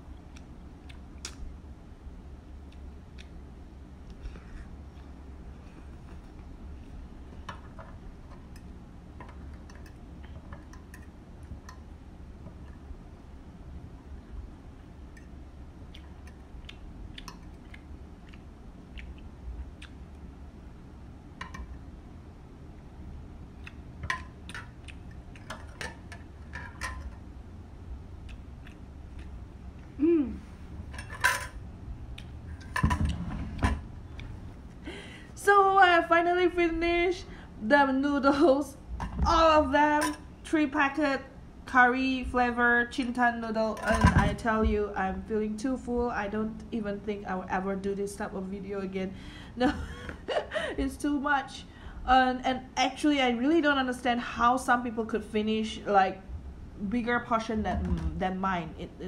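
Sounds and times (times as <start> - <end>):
low hum: 0.0 - 52.2.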